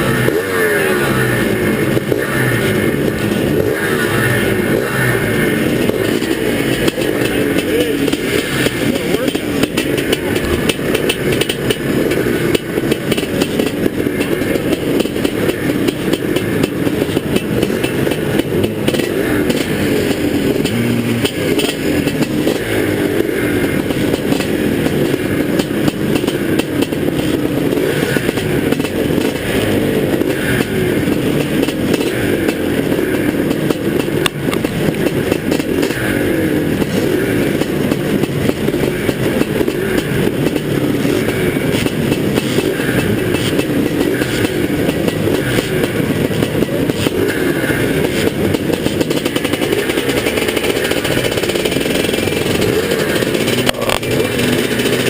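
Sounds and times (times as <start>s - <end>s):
dirt bike engine running hard: 0.0s - 55.0s.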